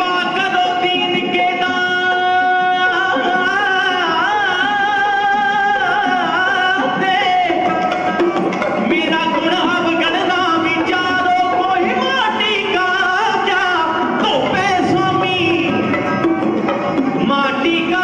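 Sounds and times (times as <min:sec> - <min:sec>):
instrumental accompaniment: 0:00.0 - 0:18.0.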